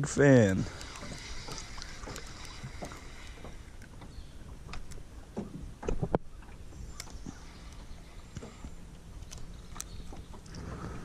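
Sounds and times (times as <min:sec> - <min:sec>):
water lapping: 0:00.0 - 0:11.0.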